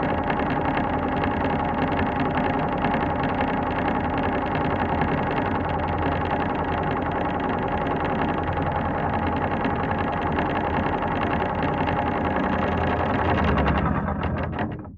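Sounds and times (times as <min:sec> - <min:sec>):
elevator mechanical hum: 0:00.0 - 0:14.9.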